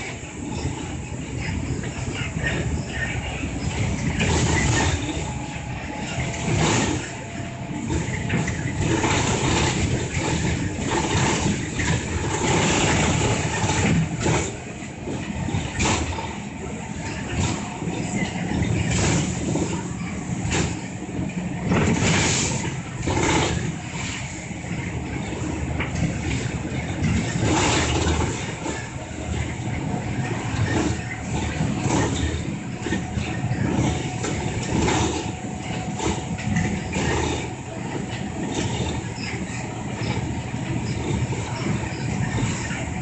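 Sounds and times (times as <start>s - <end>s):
bus diesel engine running: 0.0s - 43.0s.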